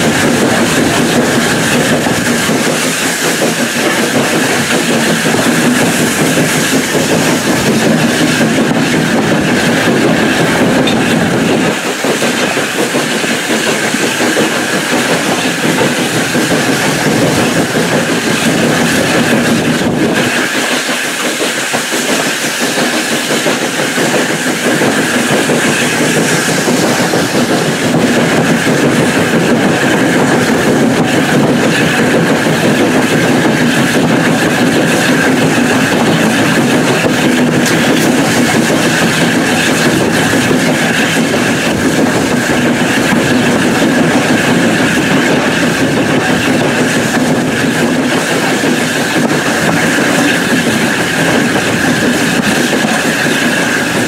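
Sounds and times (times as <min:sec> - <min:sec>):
rushing air: 0:00.0 - 0:54.0
train wheels on rail: 0:00.0 - 0:54.0.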